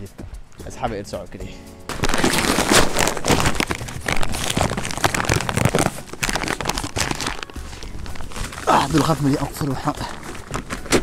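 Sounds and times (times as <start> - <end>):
plastic bag crinkling: 1.9 - 11.0.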